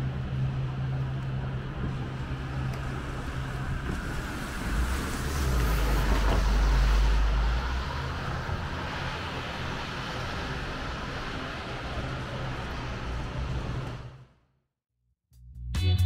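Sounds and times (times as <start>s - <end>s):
background traffic: 0.0s - 14.4s.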